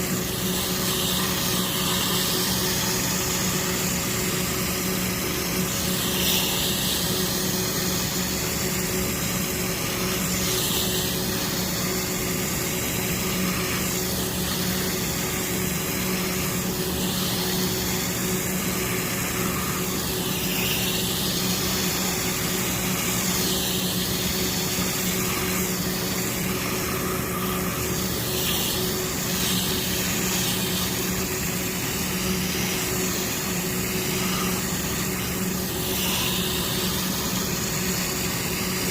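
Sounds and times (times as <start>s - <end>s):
motor hum: 0.0s - 38.9s
water spray hissing: 0.0s - 38.9s.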